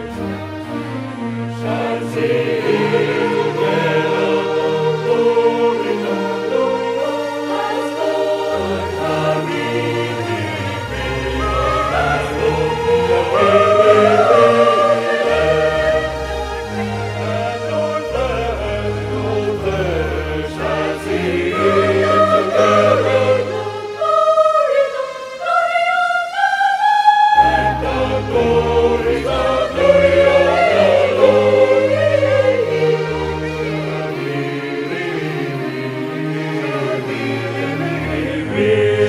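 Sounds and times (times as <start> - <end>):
church choir singing in parts: 0.0 - 39.0.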